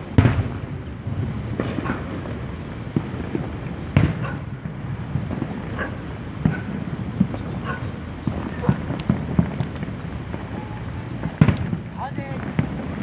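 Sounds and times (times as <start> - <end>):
fireworks booming: 0.0 - 13.0
fireworks popping: 0.0 - 13.0.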